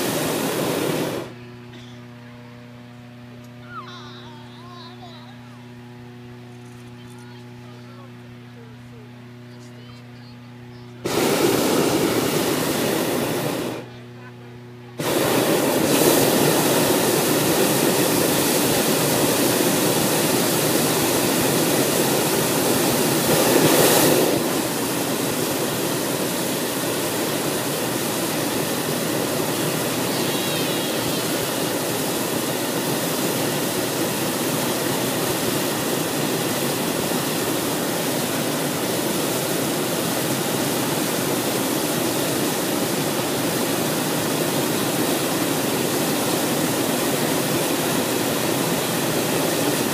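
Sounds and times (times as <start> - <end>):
propane burner blast: 0.0 - 5.8, 11.0 - 49.9.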